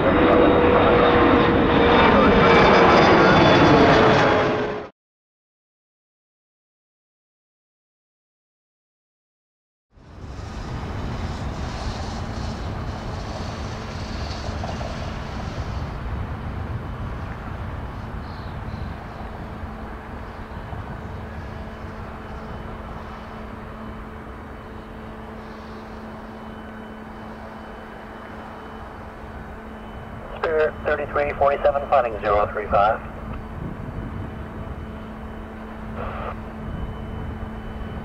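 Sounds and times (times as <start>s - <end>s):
jet engine rumble: 0.0s - 4.9s, 9.9s - 38.0s.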